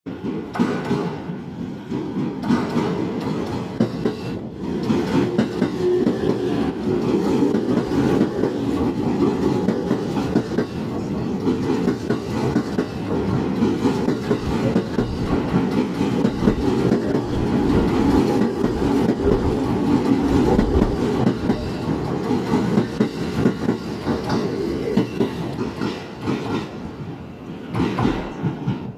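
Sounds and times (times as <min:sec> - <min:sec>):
wheels clicking over rail joints: 0:01.9 - 0:26.7.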